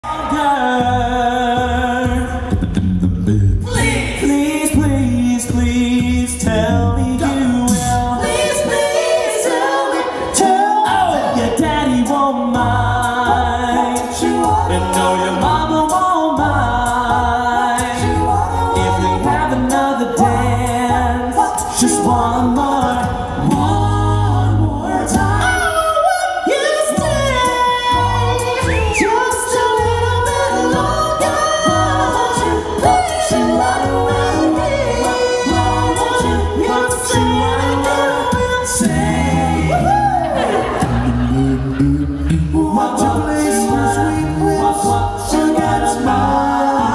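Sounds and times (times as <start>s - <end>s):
male a cappella group singing: 0.0s - 46.9s.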